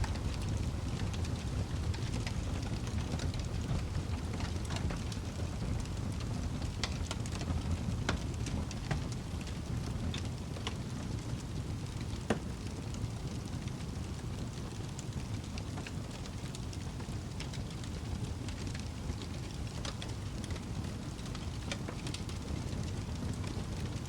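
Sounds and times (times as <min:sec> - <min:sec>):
burning logs crackling and popping: 0:00.0 - 0:24.0
low rumble of flames: 0:00.0 - 0:24.0.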